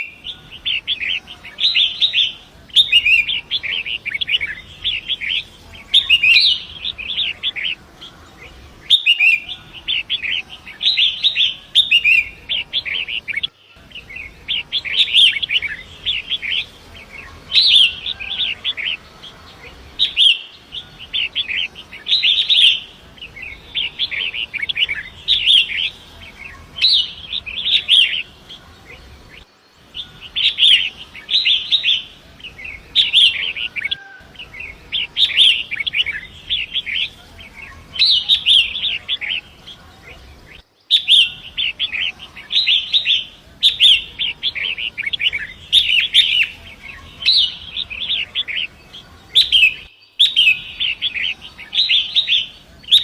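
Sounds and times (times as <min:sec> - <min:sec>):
bird chattering song: 0:00.0 - 0:53.0.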